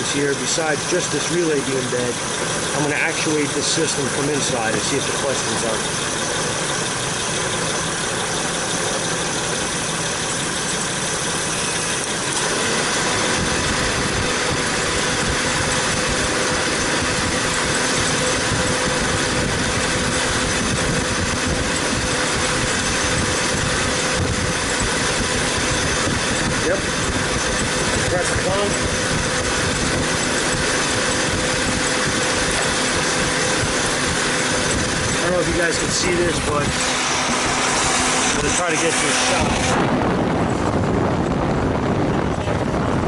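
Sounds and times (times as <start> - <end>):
air conditioning hum: 0.0 - 43.0
car engine idling: 0.0 - 43.0
cooling fan rushing: 0.0 - 43.0.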